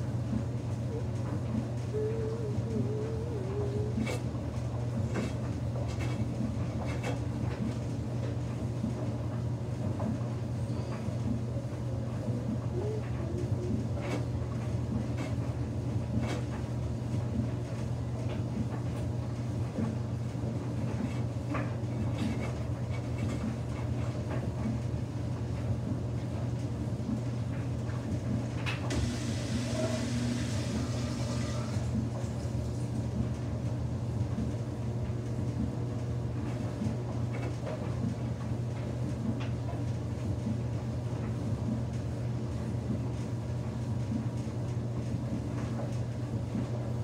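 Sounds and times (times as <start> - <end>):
washing machine motor hum: 0.0 - 47.0.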